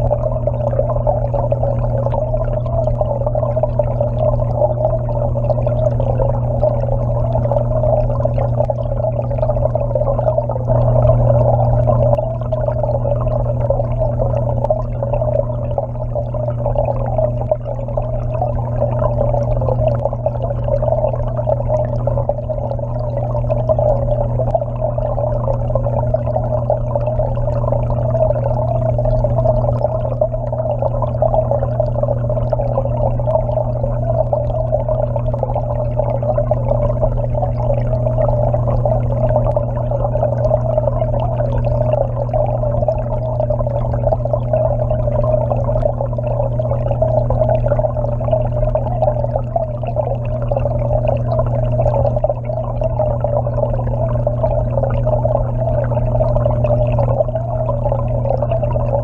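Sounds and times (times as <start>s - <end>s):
low pump hum: 0.0s - 59.0s.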